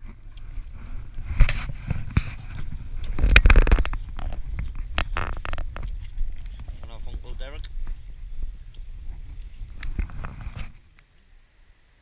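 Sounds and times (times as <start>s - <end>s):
wind rumbling on microphone: 0.0s - 11.1s.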